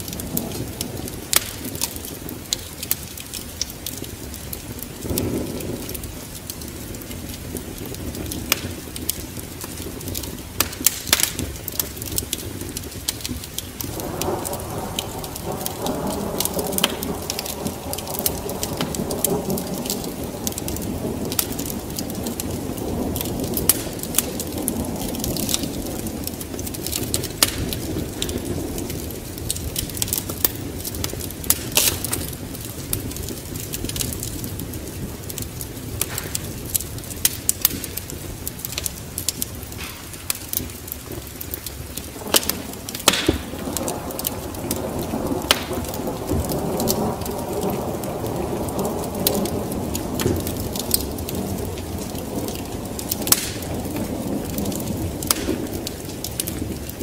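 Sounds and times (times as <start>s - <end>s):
low rumble of thunder: 0.0s - 57.0s
steady rain: 0.0s - 57.0s
wood fire crackling: 0.0s - 57.0s.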